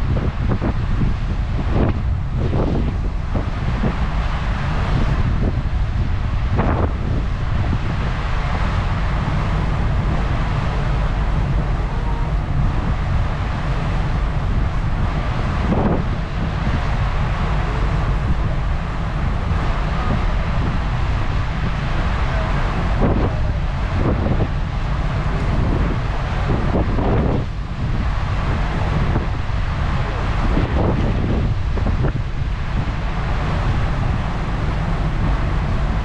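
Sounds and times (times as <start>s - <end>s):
ferry engine rumble: 0.0s - 36.0s
rush of sea: 0.0s - 36.0s
wind buffeting microphone: 0.0s - 36.0s.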